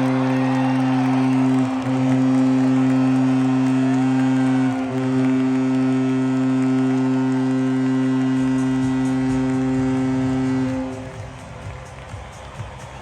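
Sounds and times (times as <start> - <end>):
goal horn low blast: 0.0 - 12.8.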